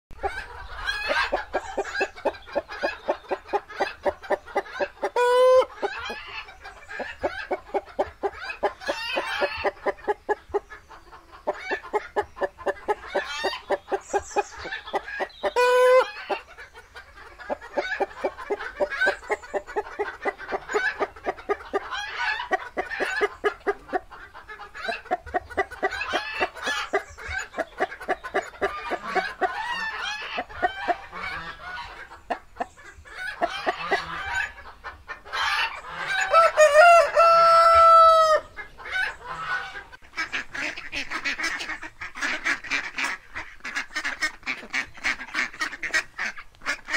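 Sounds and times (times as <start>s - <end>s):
chicken squawking: 0.2s - 46.9s
chickens clucking: 0.2s - 46.9s.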